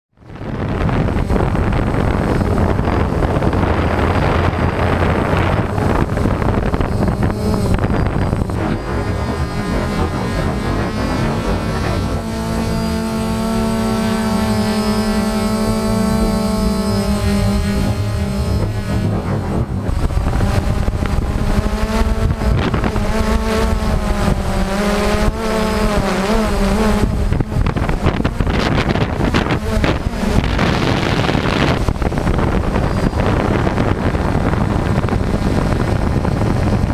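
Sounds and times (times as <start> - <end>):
drone propellers whirring: 0.1 - 36.9
wind buffeting microphone: 0.2 - 36.9.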